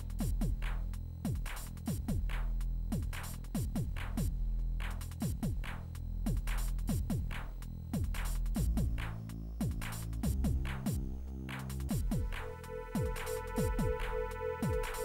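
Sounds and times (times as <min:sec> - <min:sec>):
electronic music with drum machine: 0:00.0 - 0:15.0.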